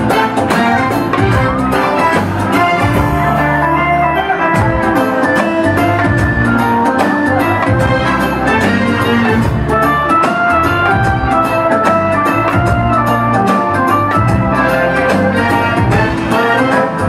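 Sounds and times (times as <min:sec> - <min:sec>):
drums and percussion beat: 0:00.0 - 0:17.0
organ-like keyboard melody: 0:00.0 - 0:17.0.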